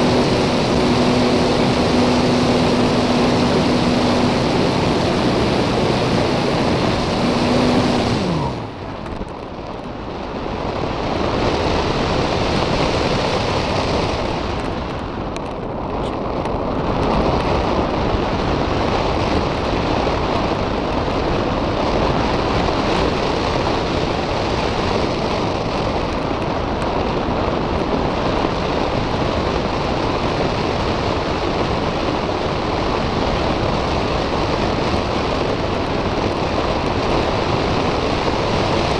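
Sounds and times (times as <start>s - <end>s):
electric motor and propeller: 0.0s - 38.9s
wind rushing over microphone: 0.0s - 38.9s.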